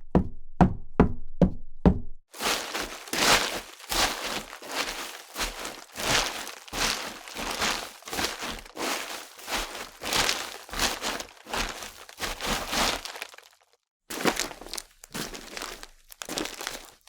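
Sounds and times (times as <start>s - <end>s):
footsteps crunching on loose ground: 2.3s - 17.0s.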